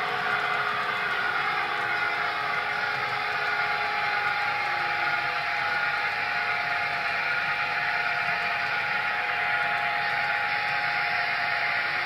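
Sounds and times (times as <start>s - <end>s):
model locomotive whirring: 0.0s - 12.0s.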